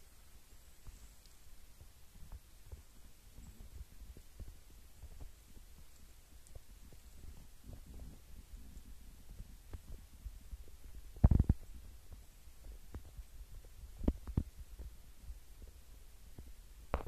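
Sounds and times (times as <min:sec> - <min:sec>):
low rumble on microphone: 0:00.0 - 0:17.0.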